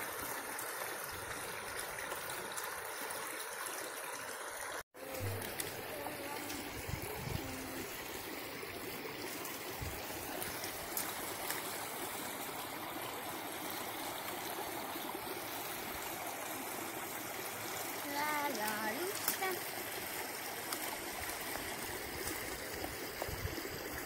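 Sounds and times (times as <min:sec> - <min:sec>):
brook flowing: 0:00.0 - 0:24.0.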